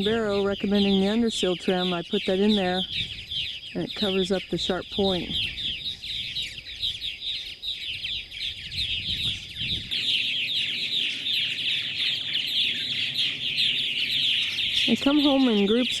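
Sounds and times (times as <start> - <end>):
birds chirping in chorus: 0.0 - 16.0.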